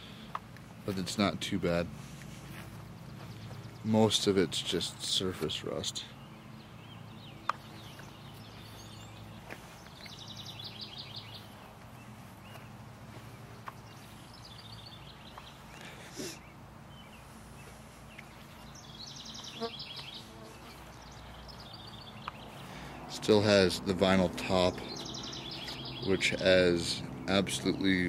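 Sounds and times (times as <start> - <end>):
bird singing trilled phrases: 3.0 - 12.8, 13.6 - 27.0.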